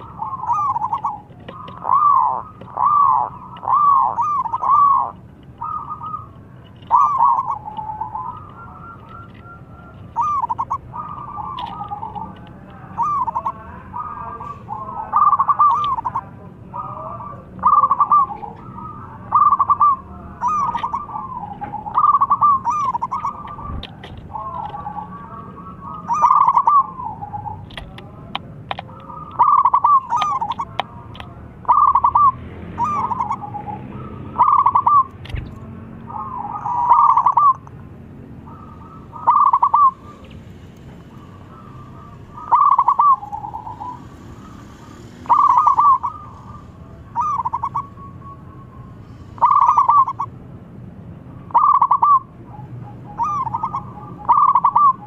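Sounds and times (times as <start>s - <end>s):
dove cooing: 0.0s - 35.2s, 36.0s - 37.8s, 38.4s - 50.4s, 51.4s - 55.0s.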